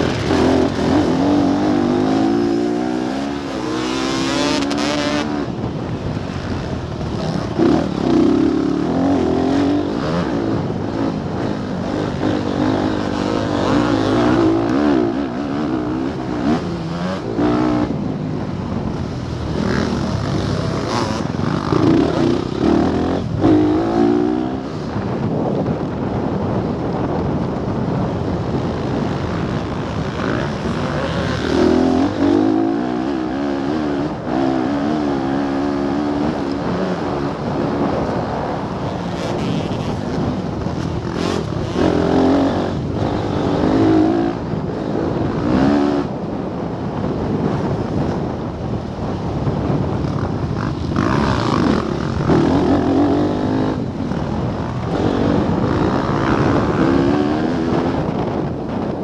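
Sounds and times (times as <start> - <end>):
motocross bike engine revving: 0.0 - 25.2, 28.2 - 48.3, 49.0 - 58.4.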